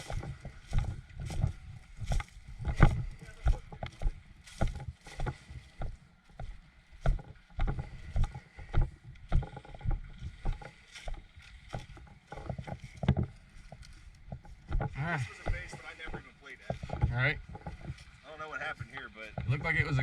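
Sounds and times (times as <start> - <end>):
footsteps thudding: 0.0 - 18.0.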